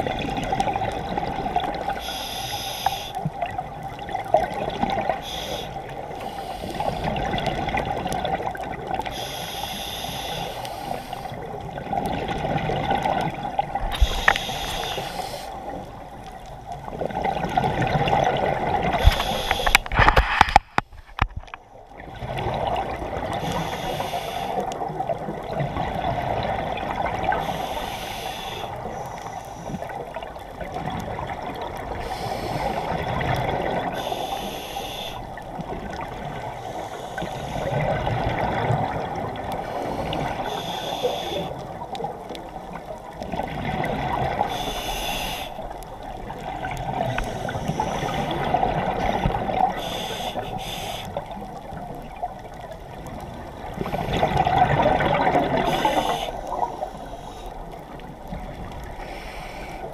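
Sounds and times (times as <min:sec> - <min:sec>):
steady watery rush: 0:00.0 - 0:59.9.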